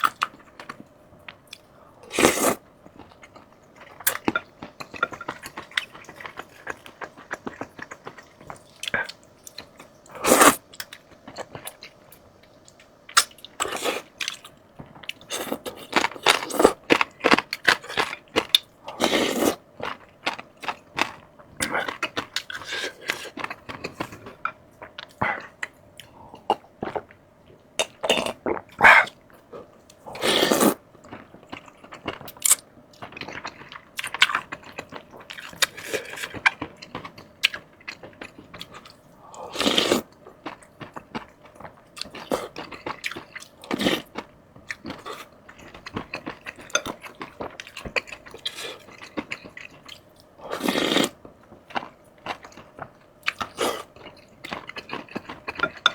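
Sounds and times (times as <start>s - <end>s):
wet chewing and crunching: 0.0s - 55.9s.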